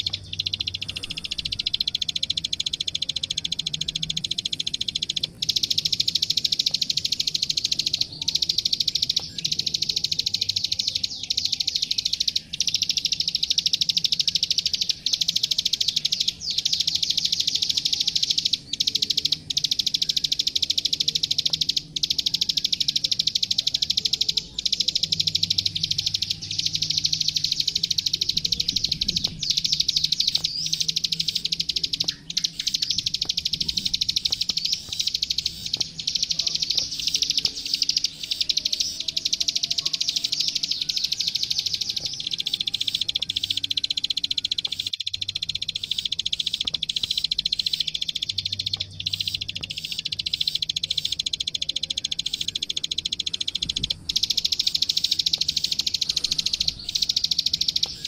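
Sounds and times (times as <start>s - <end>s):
bird singing high clicking notes: 0.0s - 58.0s.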